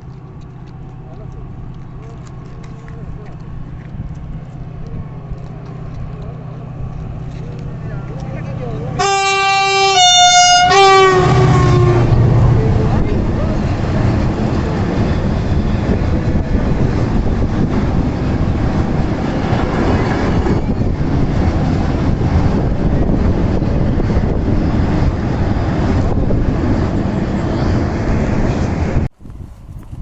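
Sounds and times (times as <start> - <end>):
freight train wagons rumbling on rails: 0.0 - 30.0.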